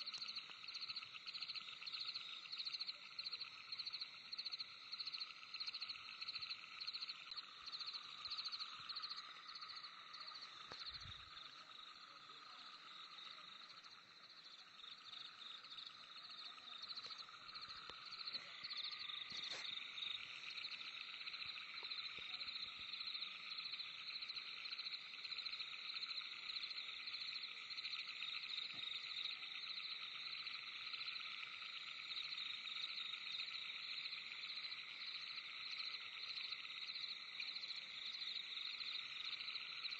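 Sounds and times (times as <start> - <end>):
frogs and insects trilling: 0.0 - 39.9.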